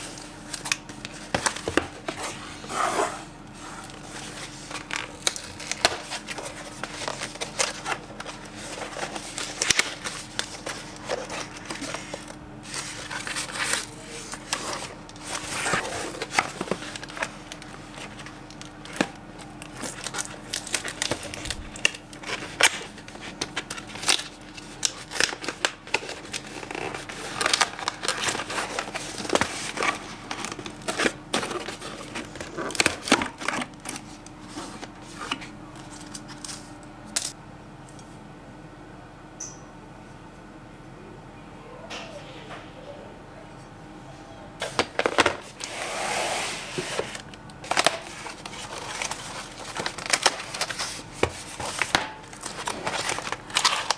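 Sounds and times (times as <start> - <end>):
packaging rustling and crinkling: 0.0 - 37.4, 44.6 - 53.9.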